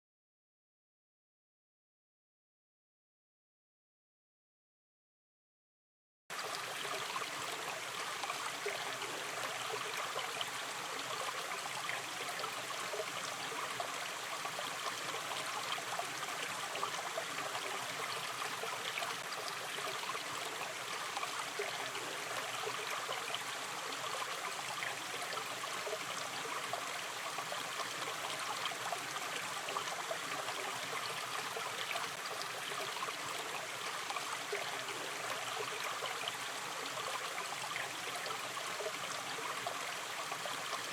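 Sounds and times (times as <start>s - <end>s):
stream babbling and trickling: 6.3s - 40.9s.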